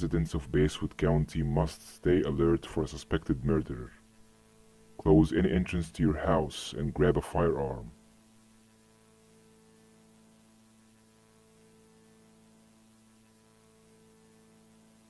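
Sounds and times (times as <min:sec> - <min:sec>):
faint hum of held tones: 0:00.0 - 0:15.0
light hiss: 0:00.0 - 0:15.0.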